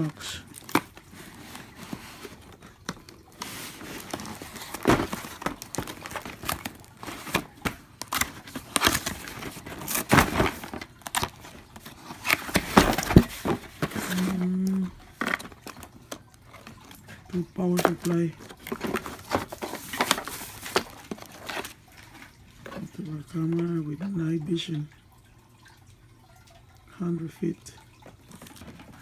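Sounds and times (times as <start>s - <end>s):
plastic bags rustling and crinkling: 0.0s - 23.6s, 27.8s - 29.0s
low steady hum: 0.0s - 29.0s.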